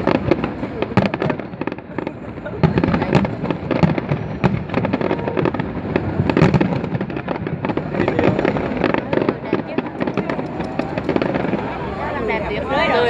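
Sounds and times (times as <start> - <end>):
fireworks bursts and crackling: 0.0 - 13.0.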